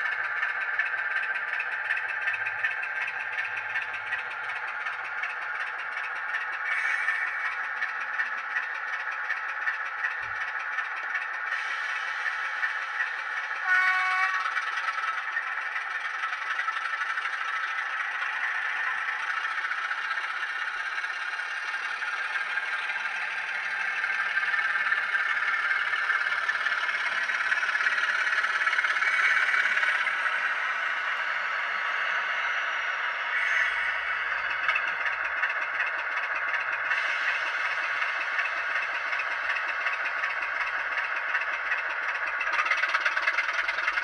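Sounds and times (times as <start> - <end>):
model diesel engine sound: 0.0 - 44.0.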